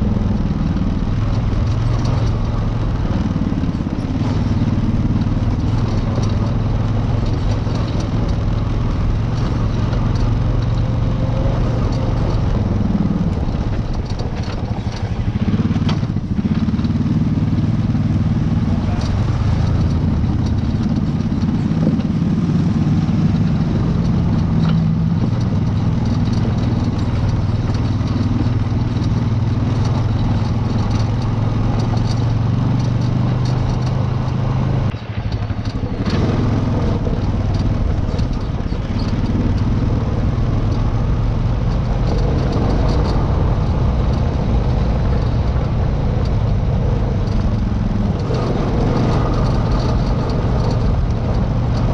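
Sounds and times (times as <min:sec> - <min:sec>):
off-road vehicle engine revving: 0:00.0 - 0:51.9
vehicle clattering over rocks: 0:00.4 - 0:51.9.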